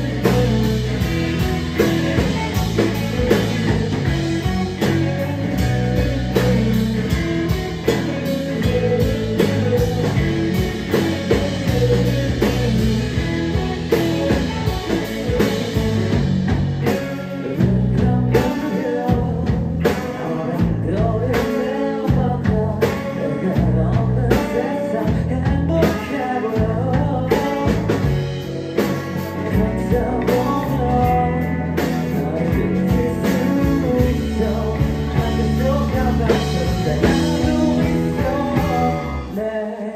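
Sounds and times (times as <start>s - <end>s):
rock band music: 0.0s - 39.9s.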